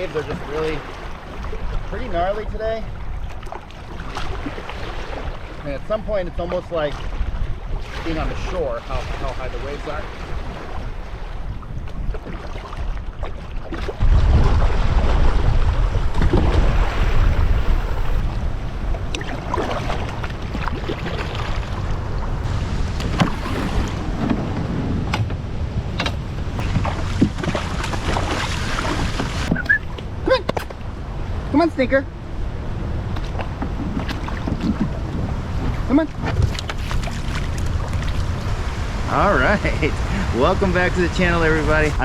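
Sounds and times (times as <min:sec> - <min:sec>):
waves splashing around canoe: 0:00.0 - 0:42.0
wind rumbling on microphone: 0:00.0 - 0:42.0.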